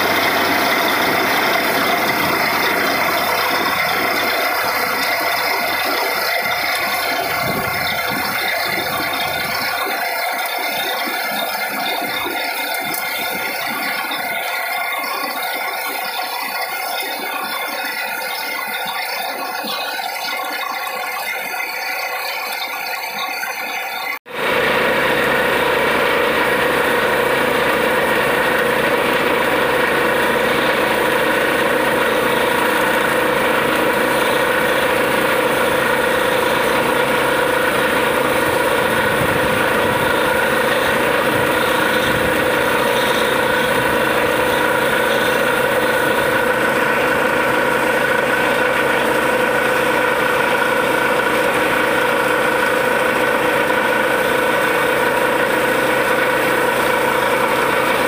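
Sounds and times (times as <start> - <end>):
air blowing water: 0.0 - 23.6, 24.4 - 58.0
drilling rig drone: 0.0 - 58.0.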